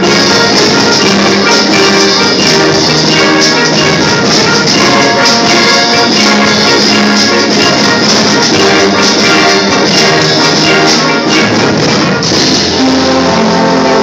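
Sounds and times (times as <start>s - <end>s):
concert band playing chords: 0.0s - 14.0s.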